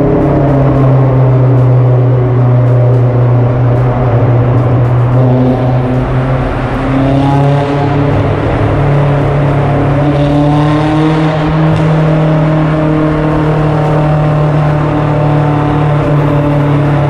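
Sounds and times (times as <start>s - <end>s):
car engine and exhaust droning: 0.0s - 17.0s.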